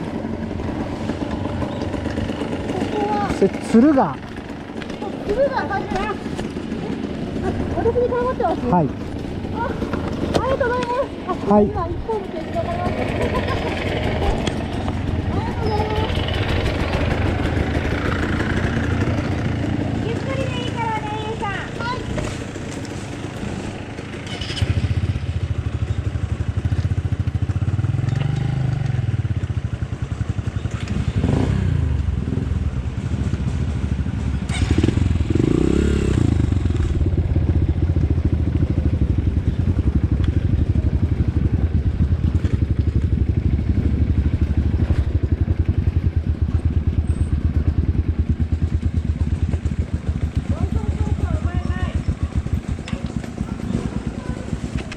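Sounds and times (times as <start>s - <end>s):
motorcycle engine revving and idling: 0.0s - 54.9s.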